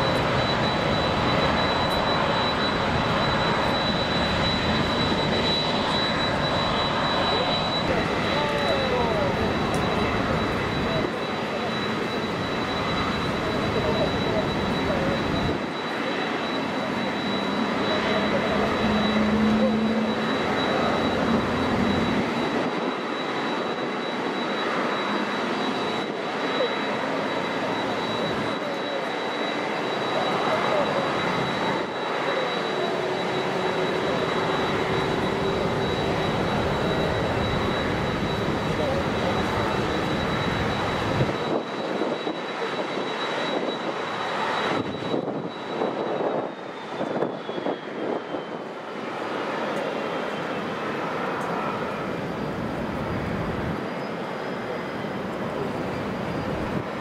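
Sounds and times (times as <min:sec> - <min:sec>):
high engine whine: 0:00.0 - 0:57.0
jet engines running: 0:00.0 - 0:57.0.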